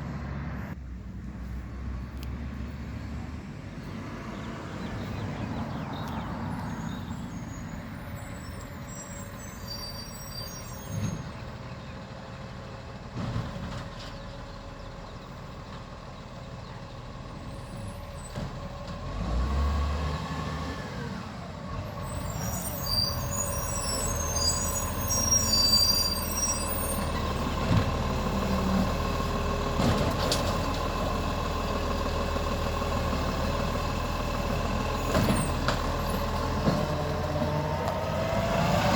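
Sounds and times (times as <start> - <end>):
garbage truck engine: 3.0 - 38.9.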